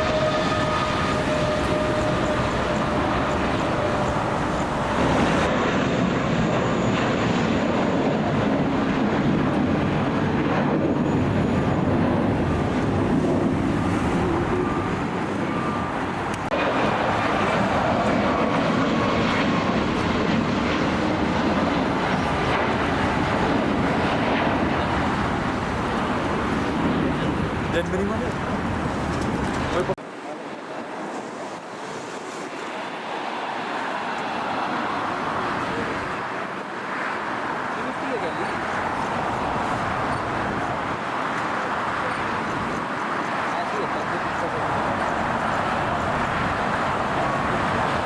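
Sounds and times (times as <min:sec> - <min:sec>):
turbine whine: 0:00.0 - 0:30.0, 0:32.5 - 0:48.0
jet engines roaring: 0:00.0 - 0:48.0.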